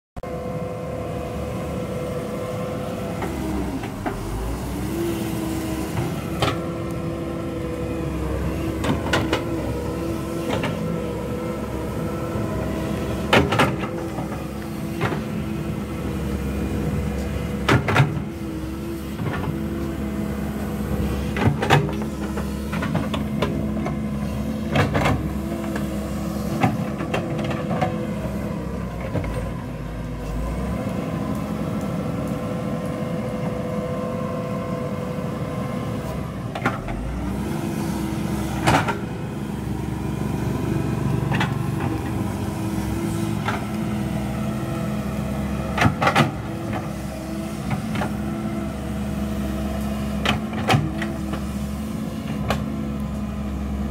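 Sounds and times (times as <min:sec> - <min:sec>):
excavator diesel engine running: 0:00.2 - 0:53.9.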